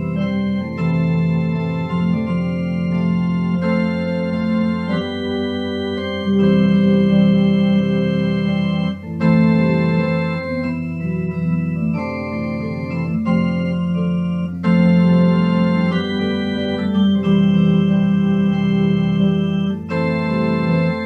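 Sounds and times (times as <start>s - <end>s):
organ-like keyboard chords: 0.0s - 21.0s.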